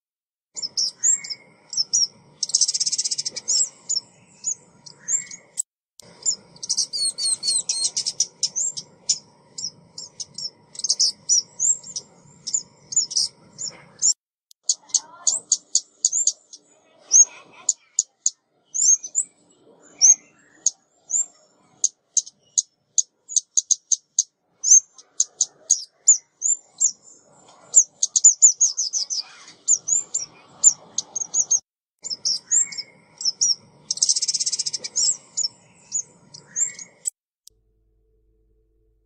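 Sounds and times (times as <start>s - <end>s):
songbird chirping and trilling: 0.6s - 37.2s.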